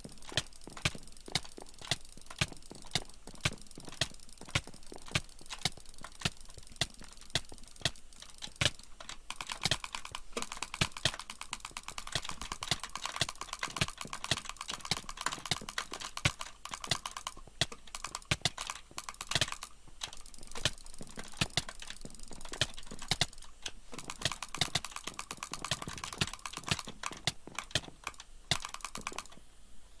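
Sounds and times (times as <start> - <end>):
fast typing on keyboard: 0.0 - 29.4.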